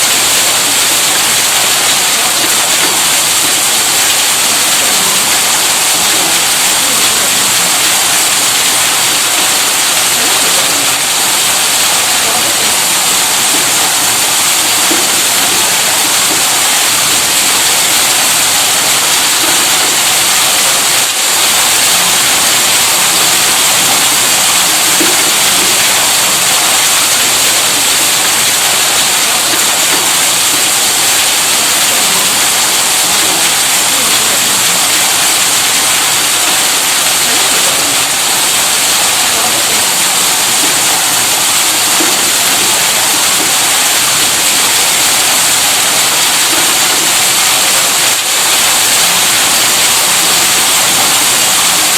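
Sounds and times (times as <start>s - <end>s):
water gushing from pump: 0.0s - 51.9s.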